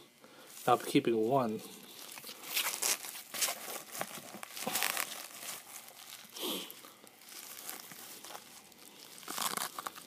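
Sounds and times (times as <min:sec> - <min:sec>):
plastic crinkling: 0:01.8 - 0:10.0.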